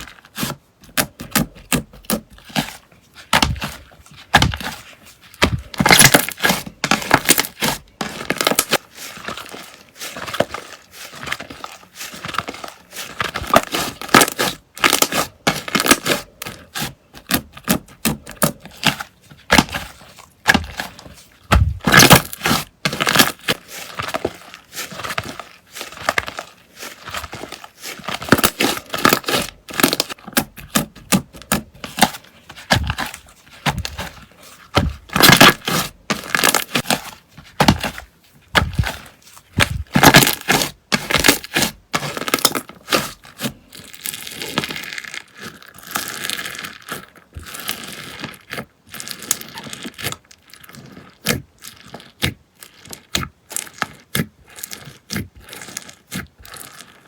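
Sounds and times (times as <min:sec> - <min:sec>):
slime crackling and popping: 0:00.0 - 0:57.0.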